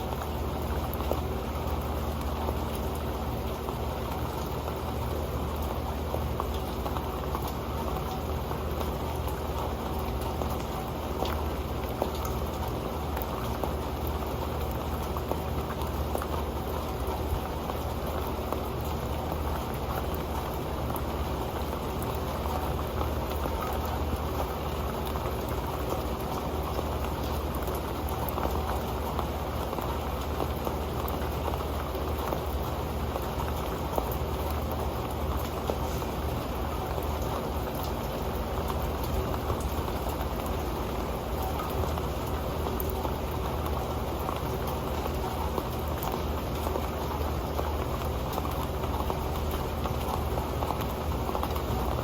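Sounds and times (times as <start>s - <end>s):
rain pattering on a metal pan: 0.0s - 52.0s.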